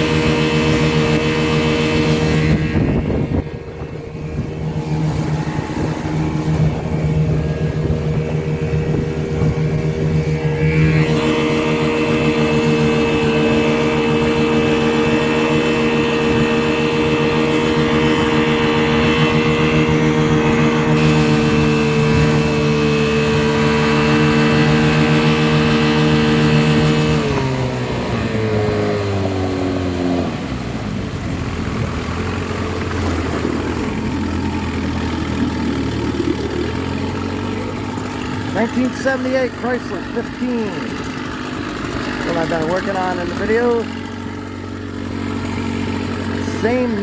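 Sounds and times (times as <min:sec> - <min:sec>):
outboard motor running: 0:00.0 - 0:47.0.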